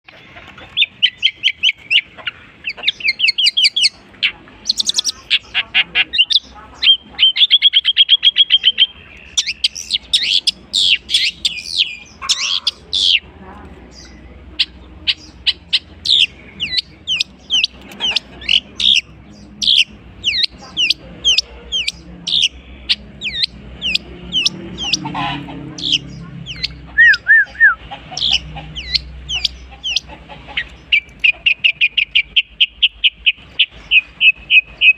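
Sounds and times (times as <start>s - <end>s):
shrike singing varied song: 0.1s - 34.9s.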